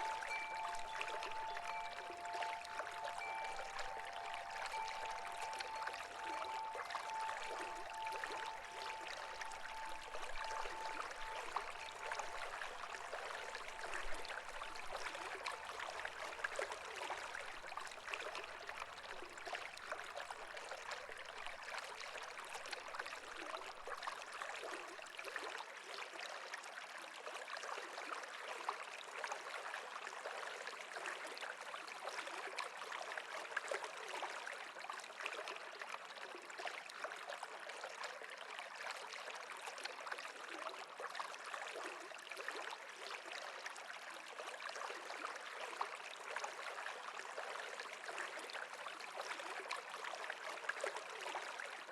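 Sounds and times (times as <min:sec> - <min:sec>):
stream water babbling: 0:00.0 - 0:51.9.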